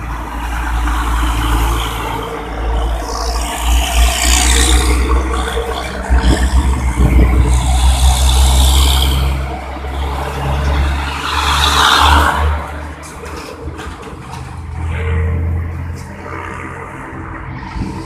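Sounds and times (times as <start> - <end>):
heavy trucks rumbling: 0.0 - 18.0
vehicles passing: 0.0 - 18.0.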